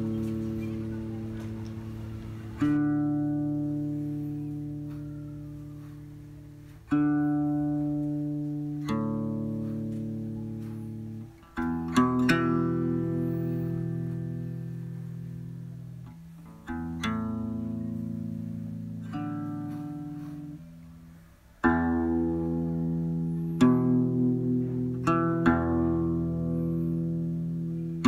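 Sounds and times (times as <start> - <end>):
slow guitar chords: 0.0 - 28.0.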